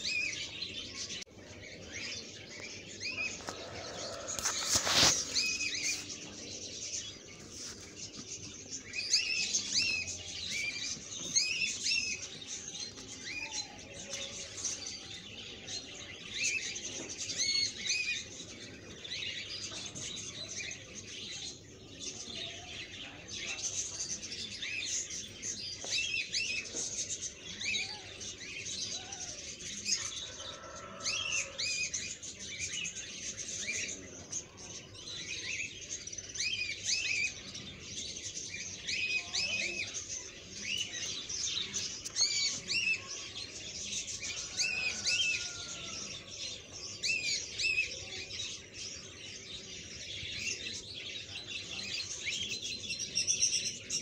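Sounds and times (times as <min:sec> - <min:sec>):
many small birds chirping: 0:00.0 - 0:54.0.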